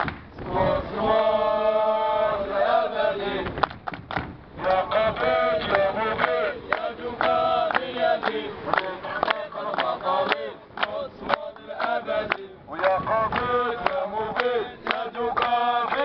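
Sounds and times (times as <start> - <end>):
male crowd chanting: 0.4 - 3.5, 4.6 - 16.0.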